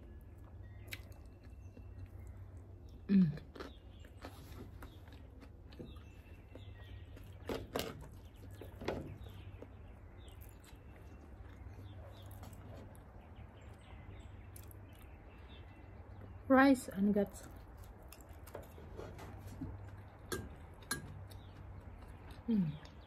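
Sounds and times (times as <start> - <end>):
faint birds chirping: 0.0 - 23.0
low steady hum: 0.0 - 23.0.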